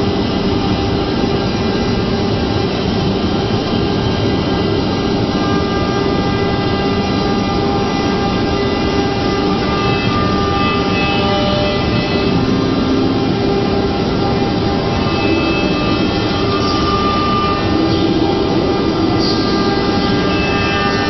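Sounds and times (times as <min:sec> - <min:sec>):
router machine running: 0:00.0 - 0:21.0
spindles whining: 0:00.0 - 0:21.0.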